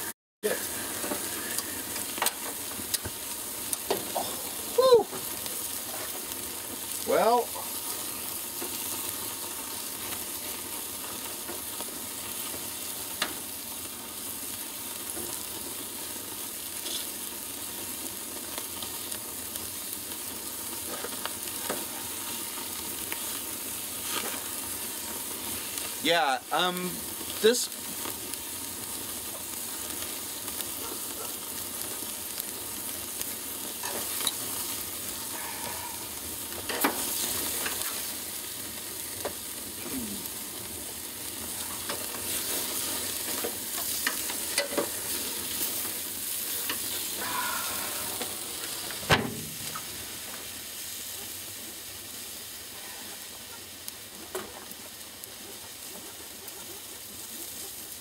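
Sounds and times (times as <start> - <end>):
grease fire sizzling and crackling: 0.0 - 58.0.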